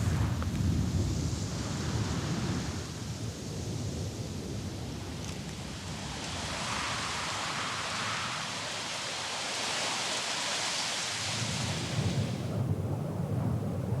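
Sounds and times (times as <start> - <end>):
wind gusts buffeting microphone: 0.0 - 8.9, 11.2 - 14.0
blizzard wind hissing: 0.0 - 14.0.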